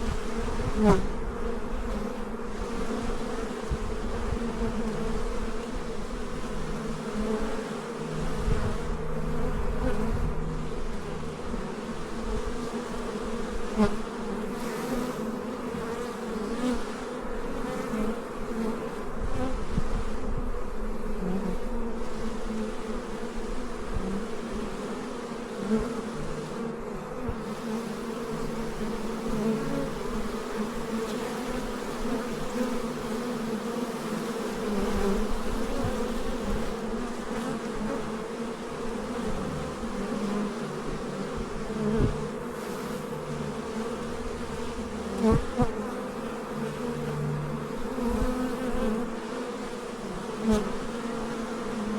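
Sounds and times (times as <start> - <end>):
honeybees buzzing: 0.0 - 51.9.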